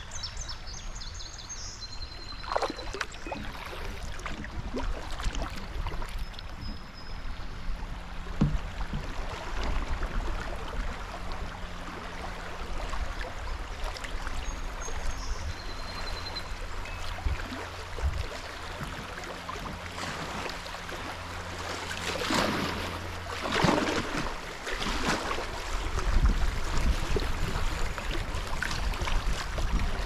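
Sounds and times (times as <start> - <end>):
creek water splashing and trickling: 0.0 - 30.0
paddle splashes: 2.1 - 30.0.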